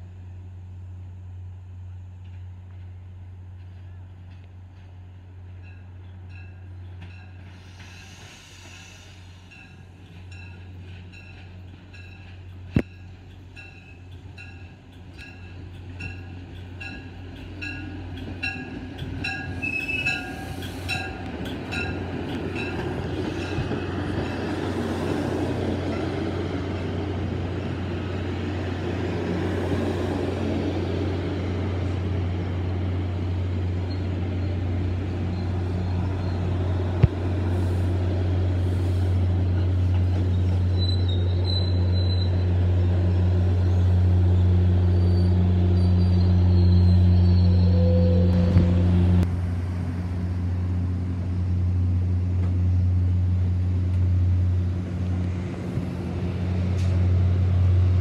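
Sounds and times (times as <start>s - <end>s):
train wheels rumbling on rail: 1.4s - 58.0s.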